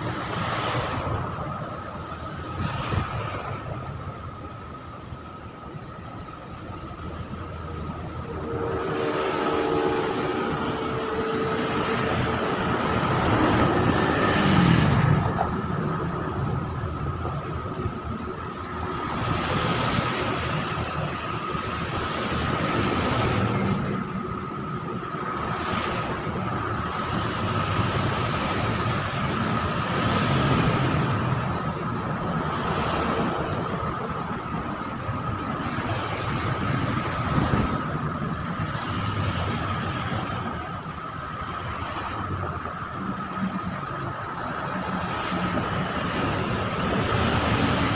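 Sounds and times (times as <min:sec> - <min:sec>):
wind noise: 0:00.0 - 0:47.9.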